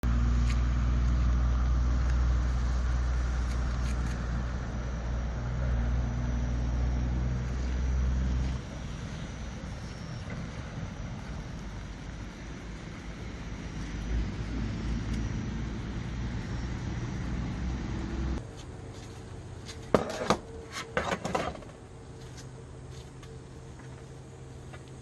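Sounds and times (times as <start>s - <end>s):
car engine humming: 0.0s - 25.0s.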